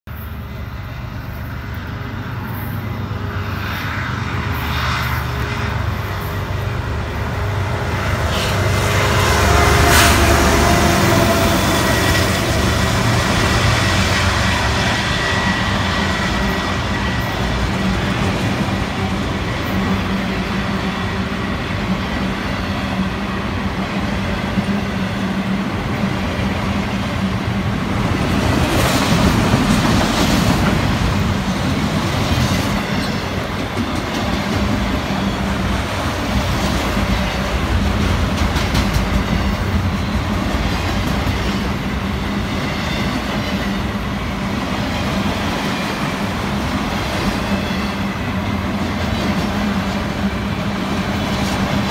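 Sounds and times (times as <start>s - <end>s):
diesel locomotive passing: 0.1s - 51.9s
freight cars rumbling on rails: 0.1s - 51.9s.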